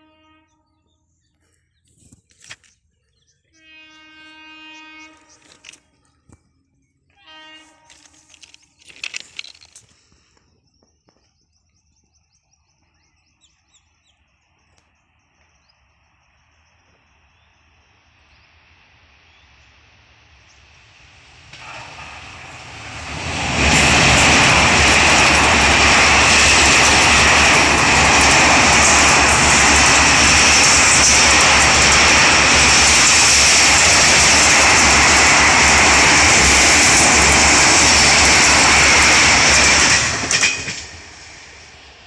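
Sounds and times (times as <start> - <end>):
train crossing steel bridge: 2.4 - 42.0.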